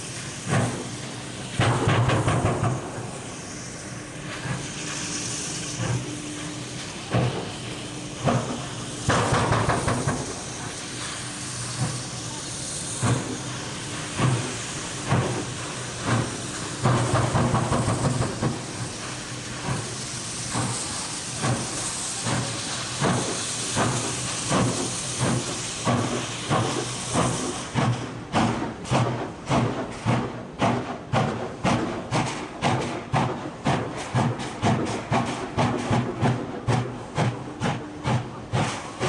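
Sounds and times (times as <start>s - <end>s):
steady steam hiss: 0.0s - 39.0s
steam locomotive exhaust beats: 0.0s - 39.0s.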